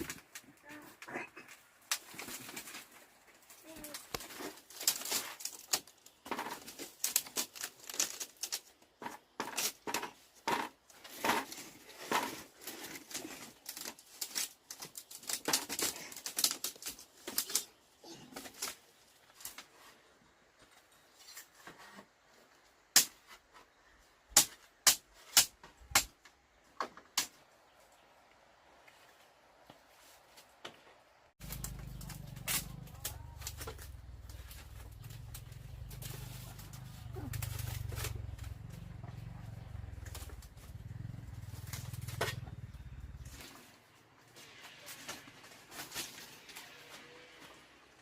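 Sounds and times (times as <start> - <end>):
objects being handled: 0.0 - 22.6, 30.0 - 47.6.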